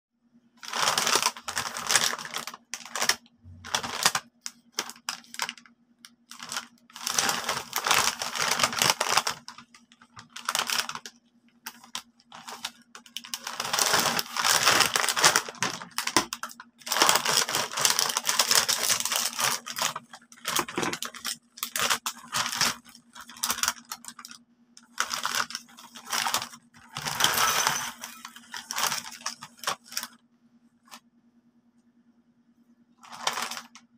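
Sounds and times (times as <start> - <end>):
plastic bag crinkling: 0.6 - 30.2, 33.0 - 33.8.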